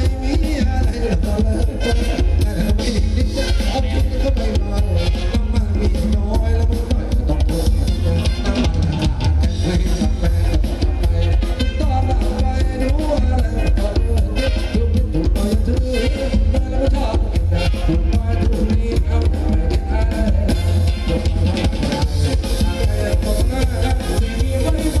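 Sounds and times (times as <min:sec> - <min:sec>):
drum kit beat: 0:00.0 - 0:25.0
heavy bass: 0:00.0 - 0:25.0
live band music: 0:00.0 - 0:25.0
person singing: 0:00.0 - 0:25.0.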